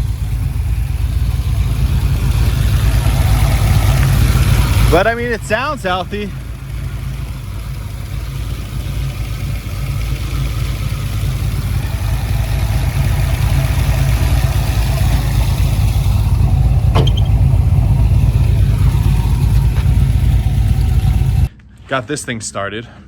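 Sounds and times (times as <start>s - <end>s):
car engine idling: 0.0s - 21.5s.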